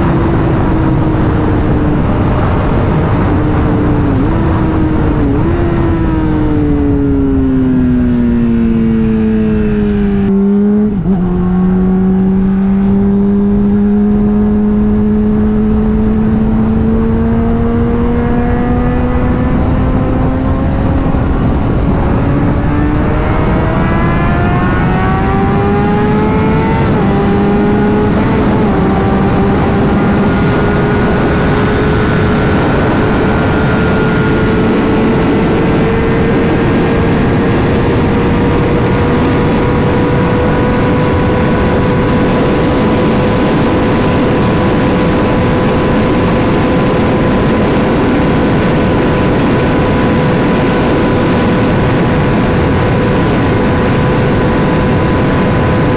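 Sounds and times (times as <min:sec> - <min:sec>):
motorcycle engine revving: 0:00.0 - 0:55.9
wind rush: 0:00.0 - 0:55.9.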